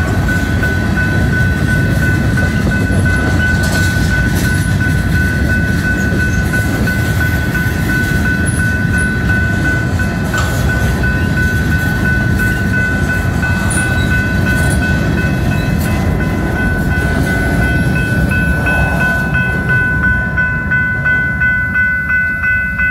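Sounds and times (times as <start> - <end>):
crossing warning bell ringing: 0.0 - 22.9
freight train rumbling on rails: 0.0 - 22.9.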